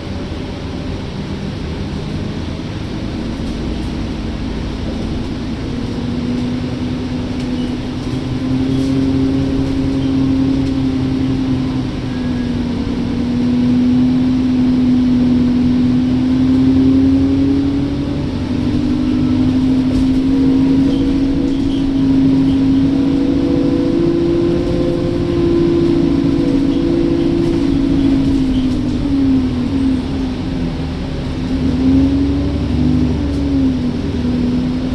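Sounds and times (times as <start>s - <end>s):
bus engine rumble: 0.0s - 34.9s
rising bus whine: 0.0s - 34.9s.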